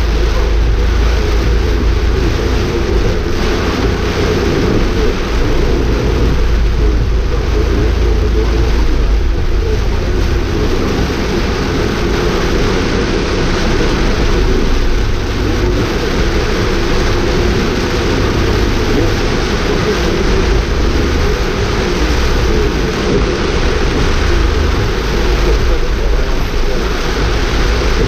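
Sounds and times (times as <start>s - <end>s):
car engine: 0.0s - 28.0s
rain on car: 0.0s - 28.0s
tyres on wet road: 0.0s - 28.0s.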